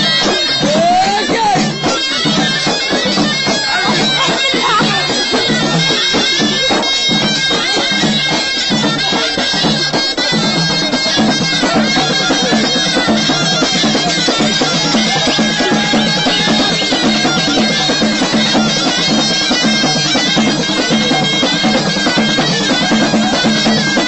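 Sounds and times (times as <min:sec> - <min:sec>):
reedy wind instrument melody: 0:00.0 - 0:24.0
steady drum beat: 0:00.0 - 0:24.0.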